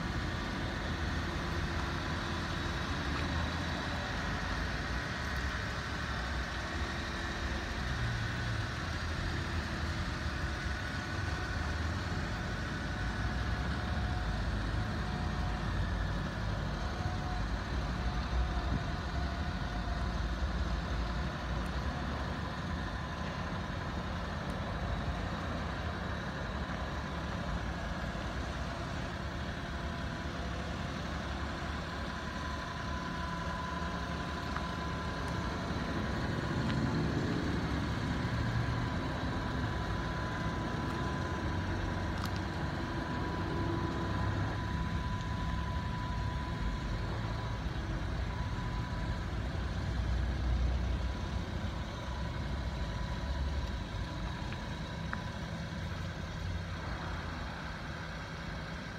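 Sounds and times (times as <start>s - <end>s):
small truck engine idling: 0.0s - 58.9s
thin steady whine: 0.0s - 58.9s.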